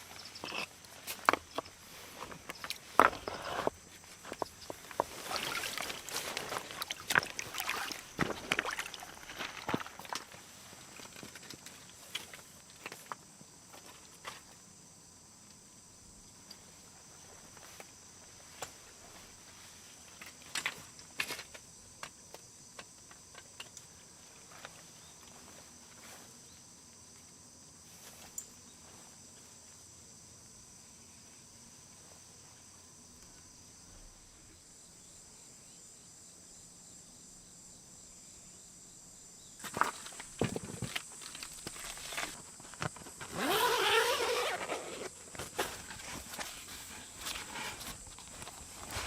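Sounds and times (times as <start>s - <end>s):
crickets trilling: 0.0s - 49.0s.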